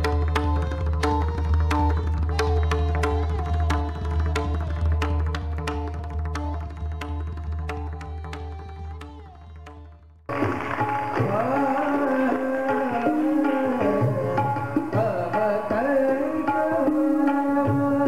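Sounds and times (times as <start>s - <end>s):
rapid tabla strokes: 0.0s - 18.0s.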